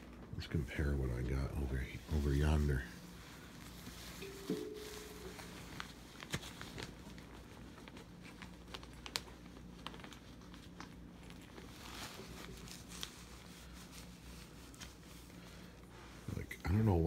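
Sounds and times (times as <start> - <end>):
coat fabric rustling: 1.1 - 17.0.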